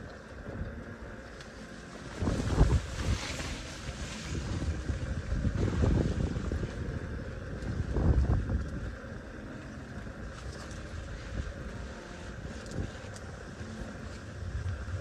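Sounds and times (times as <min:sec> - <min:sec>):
wind buffeting microphone: 0:02.1 - 0:15.0.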